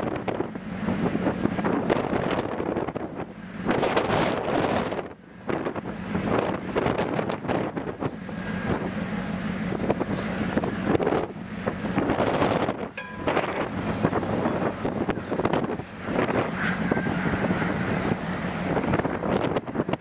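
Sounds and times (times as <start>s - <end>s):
low hum of ship: 0.0s - 20.0s
wind buffeting microphone: 0.0s - 20.0s.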